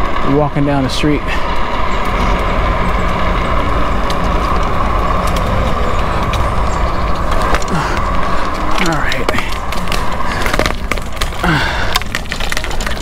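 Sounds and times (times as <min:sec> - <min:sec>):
electric drive whine: 0:00.0 - 0:11.4
grit ticking under tyres: 0:00.0 - 0:13.0
wind noise: 0:00.0 - 0:13.0
tyre rumble on pavement: 0:01.2 - 0:13.0.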